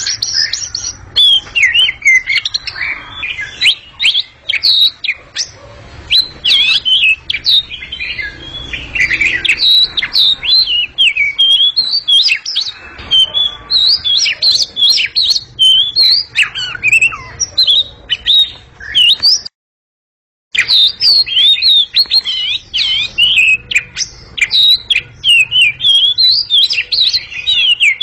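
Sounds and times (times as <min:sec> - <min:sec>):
bird singing whistles: 0:00.0 - 0:19.5, 0:20.6 - 0:28.0.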